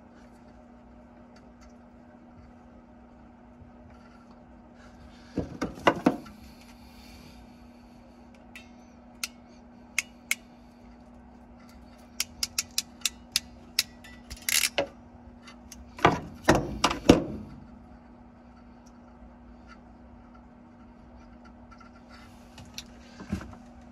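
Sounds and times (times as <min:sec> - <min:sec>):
low hum: 0:00.0 - 0:23.9.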